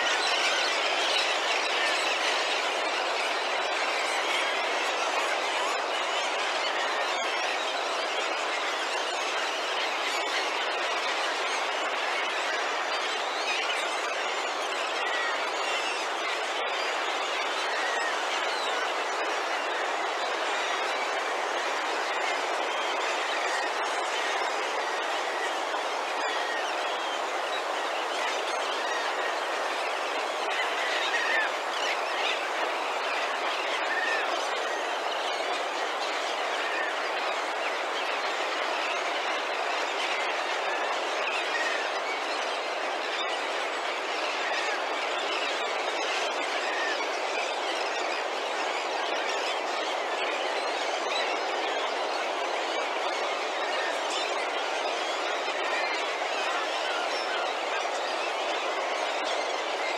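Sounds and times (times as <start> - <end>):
flock of seabirds calling: 0.0 - 59.9.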